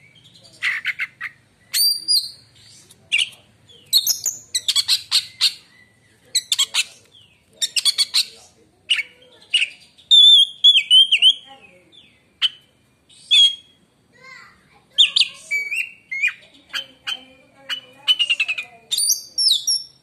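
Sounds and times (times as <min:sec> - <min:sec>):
bird singing whistles and chatter: 0:00.0 - 0:13.8, 0:15.0 - 0:20.0.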